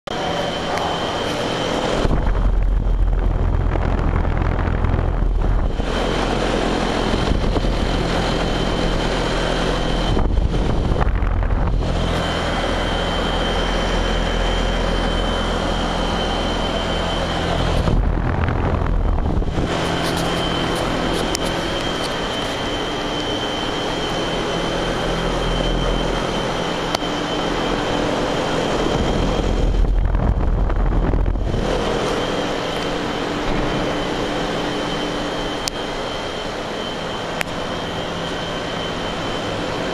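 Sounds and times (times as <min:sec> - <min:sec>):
low rumble: 0:00.1 - 0:35.4
air conditioner fan whirring: 0:00.1 - 0:39.9.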